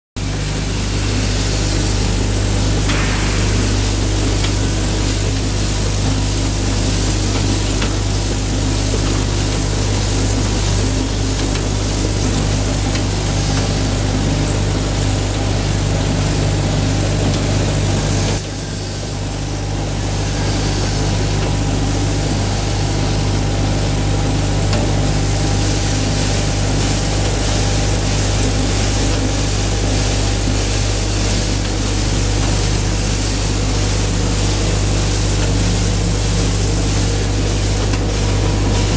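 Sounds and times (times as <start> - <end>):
machine hum: 0.2 - 38.9.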